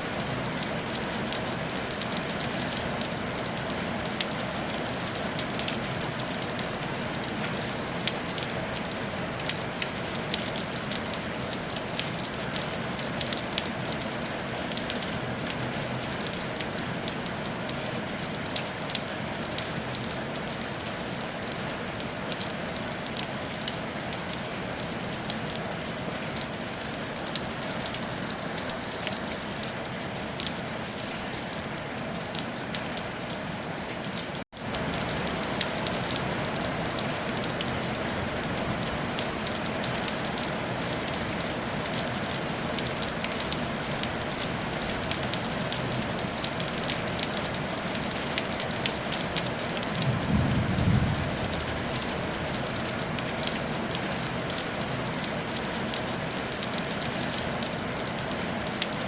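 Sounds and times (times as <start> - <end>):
rain on a tile roof: 0.0 - 59.0.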